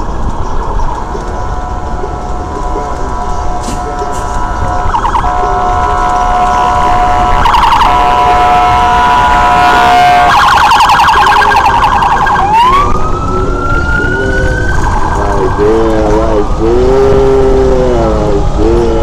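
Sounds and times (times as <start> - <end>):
police siren: 0.0 - 19.0.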